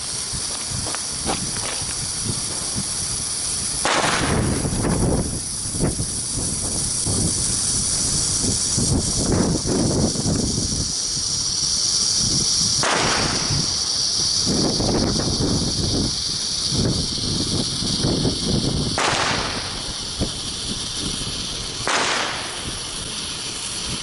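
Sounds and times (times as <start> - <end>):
firecrackers banging and crackling: 0.0 - 24.0
fireworks rushing bursts: 0.0 - 24.0
steady high hiss: 0.0 - 24.0.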